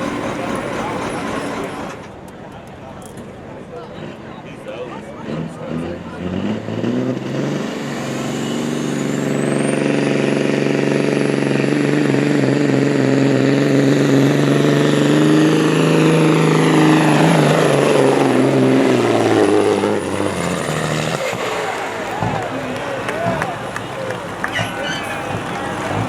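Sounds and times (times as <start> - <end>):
turbocharged engine under load: 0.0 - 26.0.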